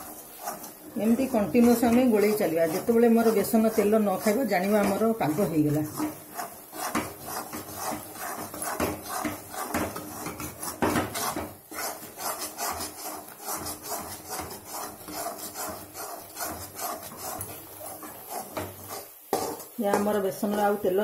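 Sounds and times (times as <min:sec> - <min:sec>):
wooden spatula scraping metal pan: 0:00.0 - 0:21.0.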